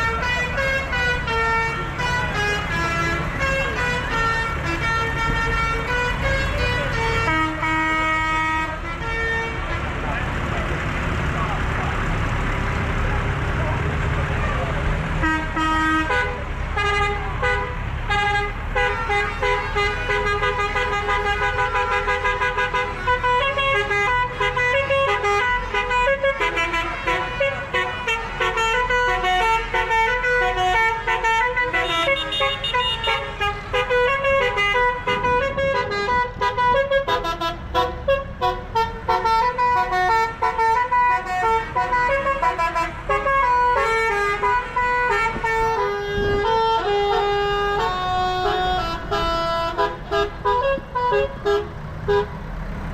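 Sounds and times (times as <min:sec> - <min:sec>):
vehicle horns playing a tune: 0:00.0 - 0:09.9, 0:15.2 - 0:52.4
tractor engines rumbling: 0:00.0 - 0:52.9.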